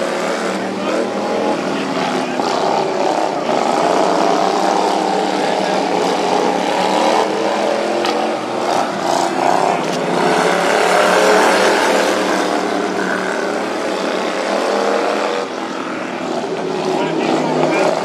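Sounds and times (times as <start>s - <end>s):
lawn mower engines running hard: 0.0s - 18.0s.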